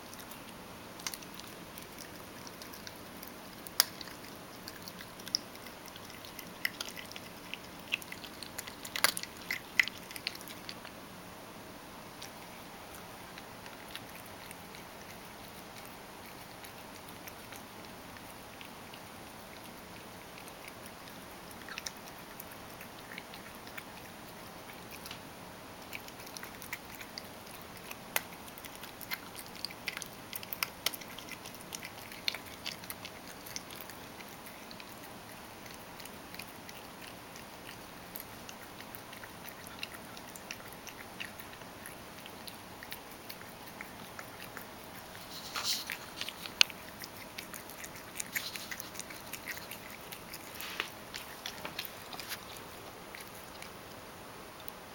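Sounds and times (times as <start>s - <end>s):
cat chewing and licking food: 0.0s - 54.9s.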